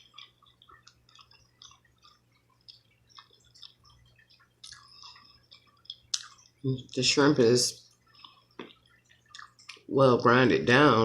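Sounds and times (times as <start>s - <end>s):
wet chewing mouth sounds: 0.0s - 7.0s, 7.8s - 9.9s.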